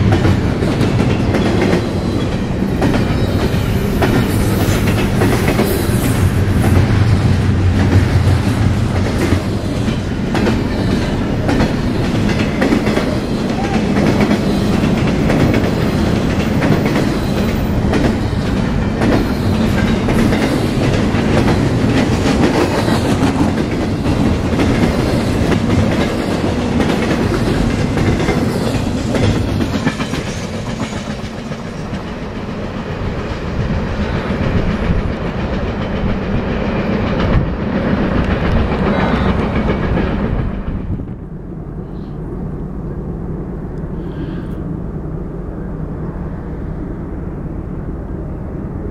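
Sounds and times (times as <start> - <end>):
train wheels rushing on rails: 0.0 - 48.9.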